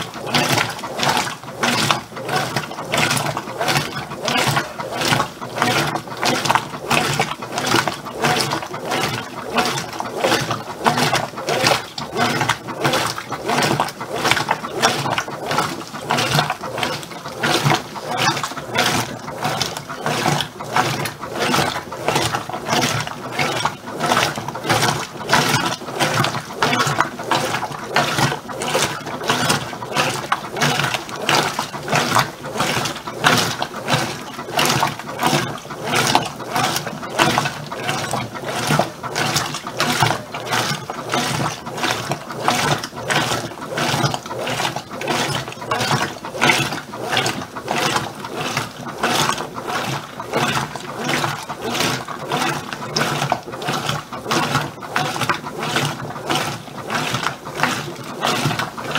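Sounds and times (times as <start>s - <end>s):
washing machine agitating: 0.0s - 58.9s
water and clothes sloshing: 0.0s - 58.9s.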